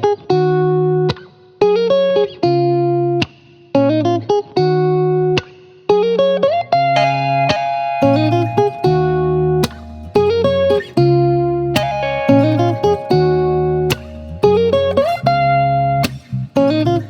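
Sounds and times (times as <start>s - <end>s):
plucked guitar melody: 0.0s - 17.0s.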